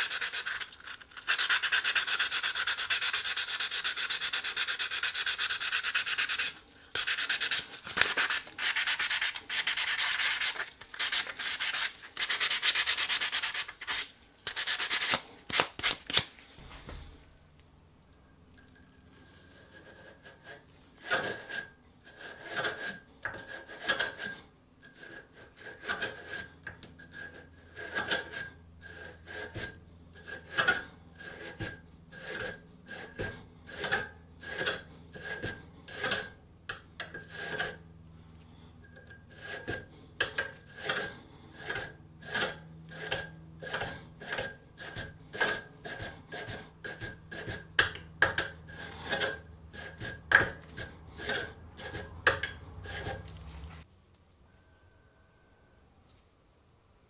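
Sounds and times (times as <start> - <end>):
wire brush scraping metal: 0.0 - 16.2, 18.8 - 36.4, 37.0 - 37.8, 38.8 - 53.8.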